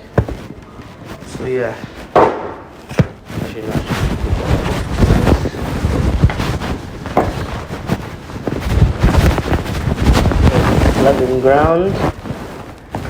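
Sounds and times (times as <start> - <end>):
rumbling on phone microphone: 0.0 - 13.0.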